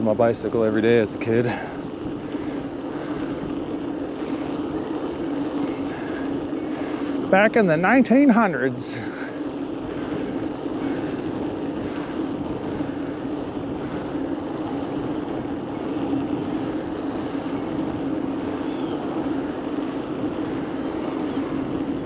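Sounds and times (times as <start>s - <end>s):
bicycle tyres rolling on road: 0.0s - 22.0s
steady hum: 0.0s - 22.0s
wind rushing past microphone: 0.0s - 22.0s.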